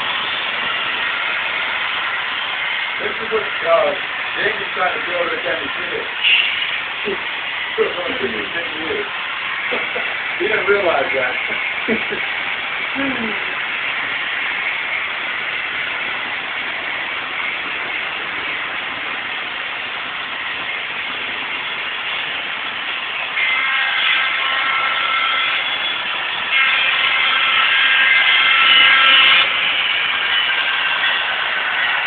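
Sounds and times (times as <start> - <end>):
model train running on track: 0.0 - 32.0.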